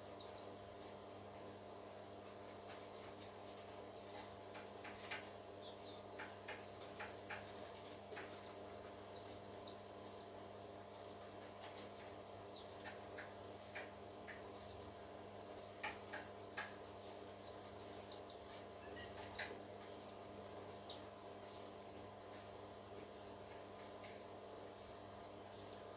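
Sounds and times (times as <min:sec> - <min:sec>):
parrot chick peeping: 0:00.0 - 0:00.6, 0:04.0 - 0:25.9
steady hum: 0:04.0 - 0:25.9.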